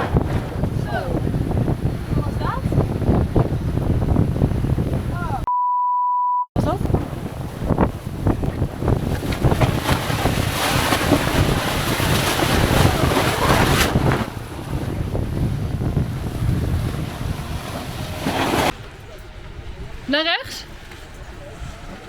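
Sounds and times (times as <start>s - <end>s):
rushing water and waves: 0.0s - 5.5s, 6.6s - 22.0s
wind buffeting microphone: 0.0s - 5.5s, 6.6s - 22.0s.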